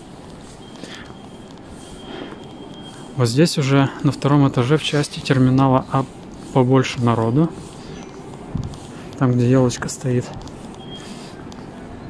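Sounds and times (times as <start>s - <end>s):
thin high whine: 0.0s - 11.9s
airport terminal background noise: 0.0s - 12.0s.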